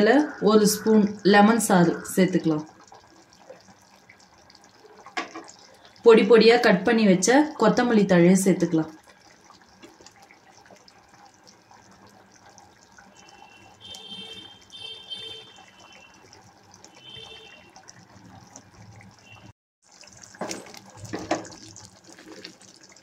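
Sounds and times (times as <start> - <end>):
gravy bubbling: 0.0 - 23.0.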